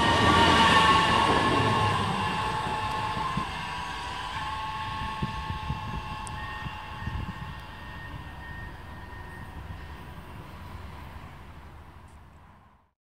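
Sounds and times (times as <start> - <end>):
low rumble: 0.0 - 11.8
electric train motor whine: 0.0 - 12.6.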